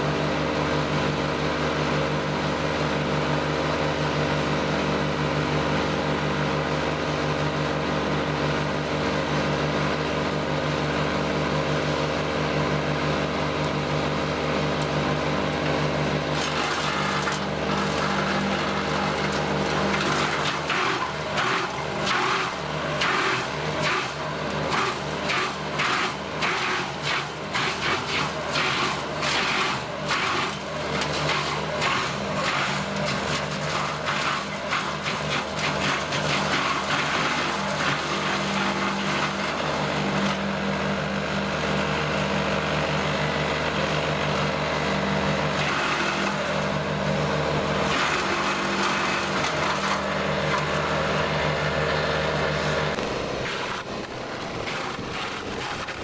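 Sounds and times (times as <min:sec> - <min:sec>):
wood chipper drone: 0:00.0 - 0:56.0.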